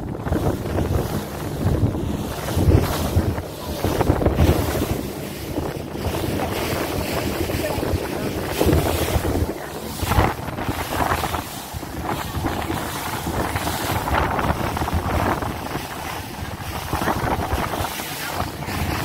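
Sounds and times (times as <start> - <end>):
water splashing against hull: 0.0 - 19.0
wind buffeting microphone: 0.0 - 19.0.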